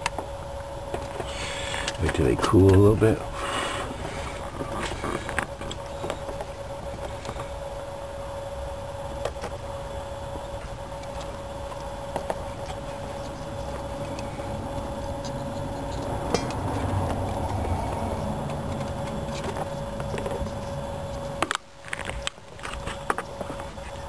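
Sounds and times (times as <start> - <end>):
low hum and rumble: 0.0 - 24.0.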